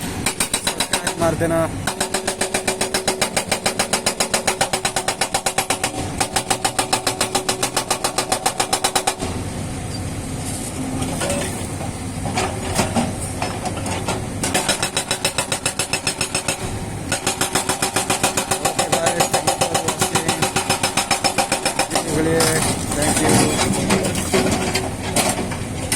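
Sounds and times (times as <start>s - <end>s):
hydraulic rock breaker hammering: 0.0s - 9.4s, 11.1s - 25.9s
excavator engine running: 0.0s - 25.9s.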